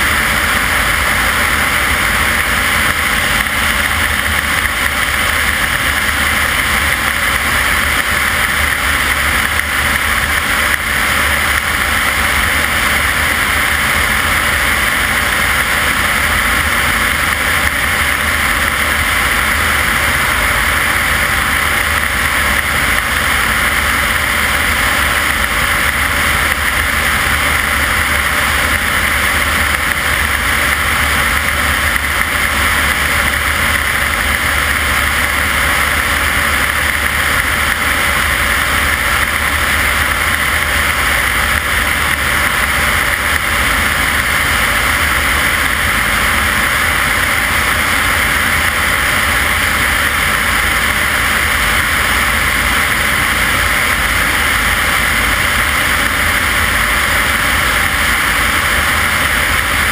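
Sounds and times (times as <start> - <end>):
propeller engine droning: 0.0 - 59.9
rush of airflow: 0.0 - 59.9.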